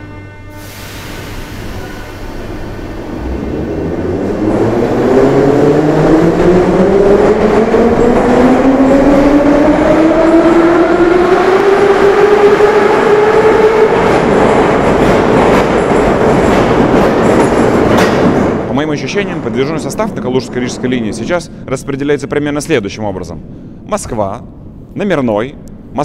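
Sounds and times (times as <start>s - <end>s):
wheels rumbling on rails: 1.6s - 22.8s.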